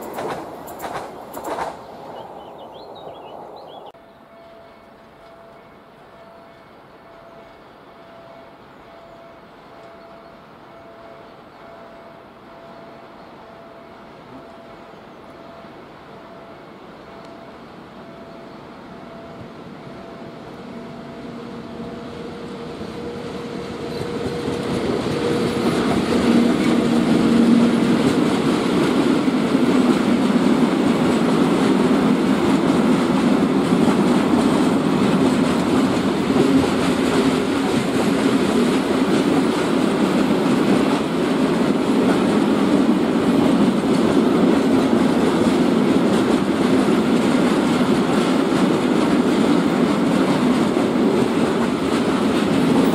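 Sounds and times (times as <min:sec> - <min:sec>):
freight train passing: 0:00.0 - 0:52.9
wheels rumbling on rails: 0:00.0 - 0:52.9.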